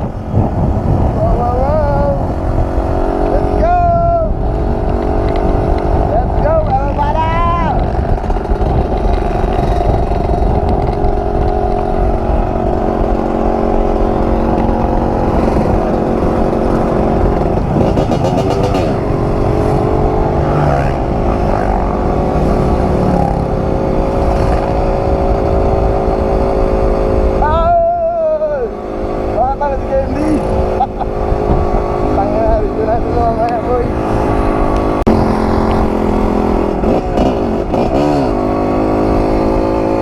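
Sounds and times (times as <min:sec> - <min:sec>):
dirt bike engine running: 0:00.0 - 0:40.0.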